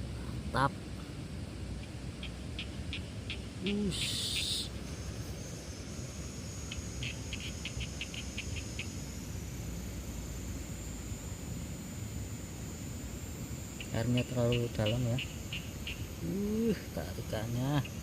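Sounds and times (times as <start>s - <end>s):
high insect whine: 0.0s - 18.0s.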